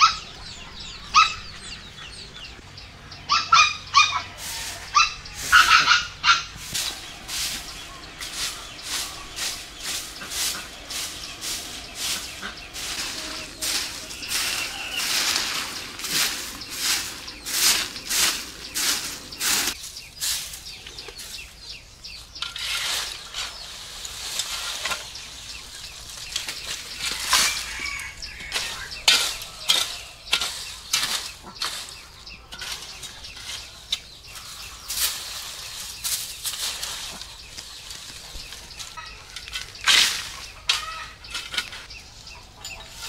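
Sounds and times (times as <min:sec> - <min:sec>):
broom sweeping leaves: 0:04.0 - 0:43.0.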